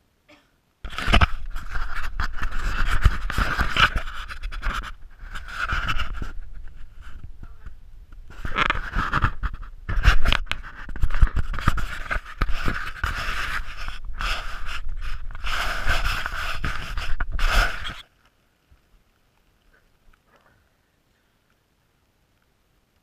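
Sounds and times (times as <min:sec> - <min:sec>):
insulation rustling and scraping: 0:00.8 - 0:20.6.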